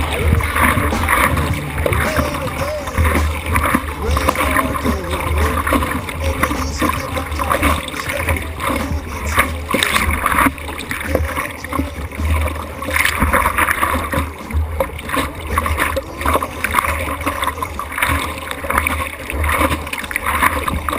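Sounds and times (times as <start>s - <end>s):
low rumble of water: 0.0s - 20.9s
water sloshing and splashing: 0.0s - 20.9s.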